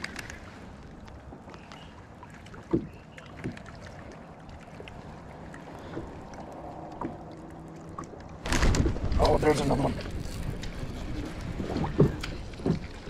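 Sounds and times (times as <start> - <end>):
faint water wash: 0.0 - 13.0.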